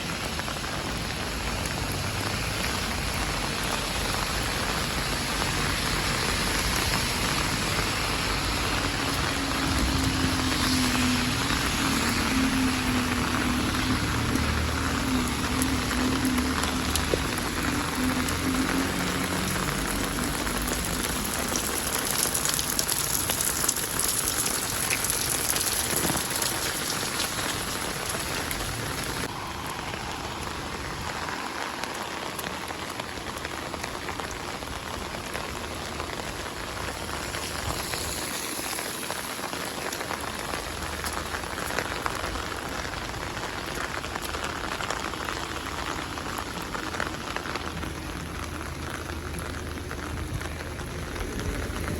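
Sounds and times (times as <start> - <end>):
rain falling on street: 0.0 - 51.9.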